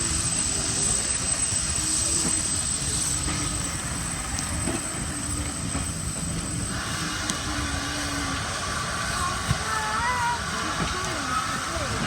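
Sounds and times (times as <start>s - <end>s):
diesel locomotive engines rumbling: 0.0s - 12.0s.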